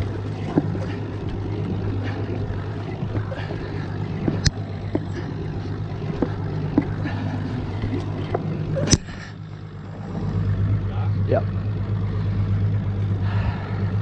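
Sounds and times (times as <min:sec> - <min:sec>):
boat engine running: 0:00.0 - 0:14.0
wind: 0:00.0 - 0:14.0.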